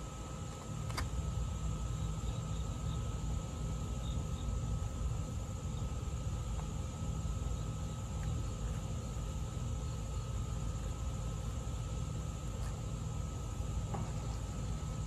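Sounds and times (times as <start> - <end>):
constant high-pitched tones: 0.0 - 15.0
steady mechanical hum: 0.0 - 15.0.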